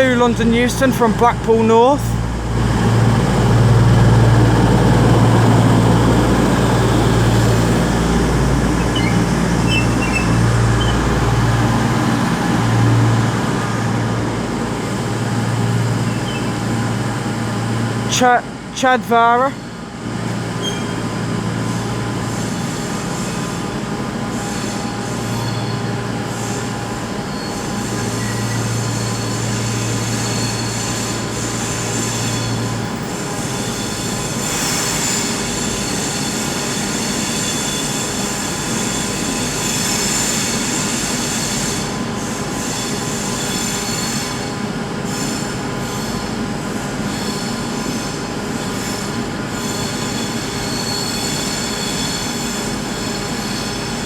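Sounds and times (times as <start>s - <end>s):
train wheels squealing: 5.4s - 12.9s, 14.8s - 18.0s, 19.6s - 54.0s.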